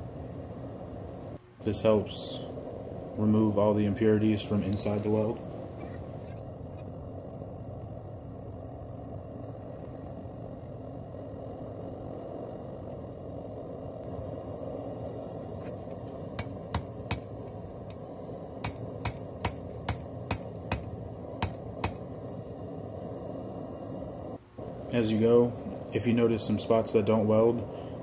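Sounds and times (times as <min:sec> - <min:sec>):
steady low rush: 0:00.0 - 0:28.0.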